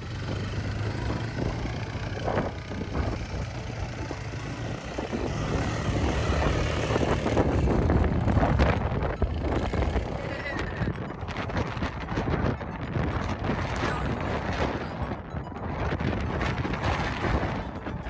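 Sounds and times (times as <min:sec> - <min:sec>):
quad bike engines running: 0:00.0 - 0:18.0.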